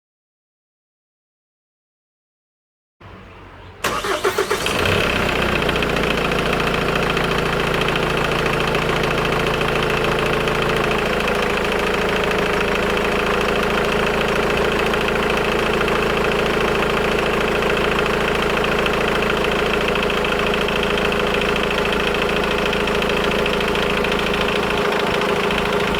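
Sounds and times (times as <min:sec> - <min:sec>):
car engine cranking and idling: 0:03.0 - 0:25.9.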